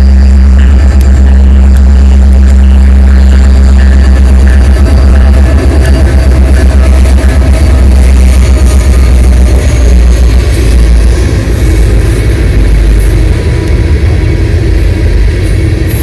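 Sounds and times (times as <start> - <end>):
freight train passing: 0.0 - 16.0.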